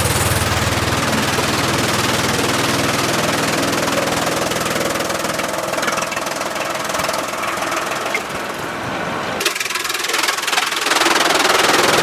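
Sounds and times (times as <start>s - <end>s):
sawmill engine throbbing: 0.0s - 12.0s.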